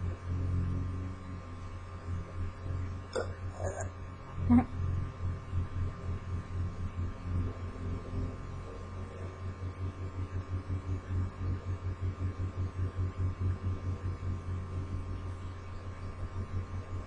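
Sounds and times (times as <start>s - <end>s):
low pulsing hum: 0.0s - 17.0s.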